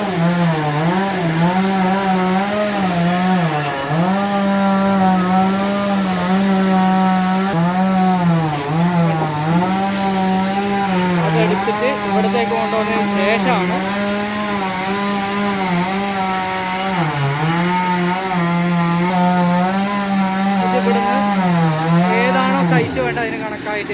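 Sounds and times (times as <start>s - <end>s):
sawmill saw cutting log: 0.0s - 23.9s.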